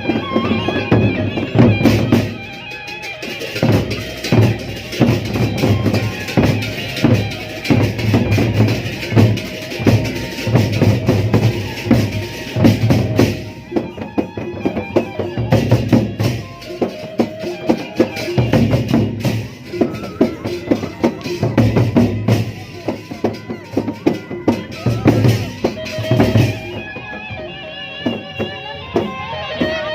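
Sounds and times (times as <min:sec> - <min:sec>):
large drums beating: 0:00.0 - 0:29.8
bamboo flute: 0:00.0 - 0:29.9.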